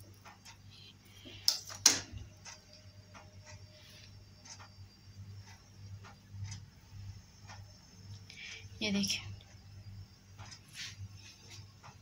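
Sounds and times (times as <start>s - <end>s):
faint ticking: 2.2s - 12.0s.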